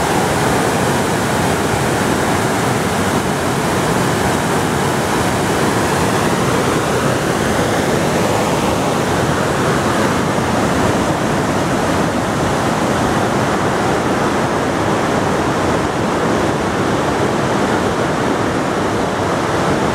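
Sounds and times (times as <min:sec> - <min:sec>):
creek water rushing over rocks: 0:00.0 - 0:19.9.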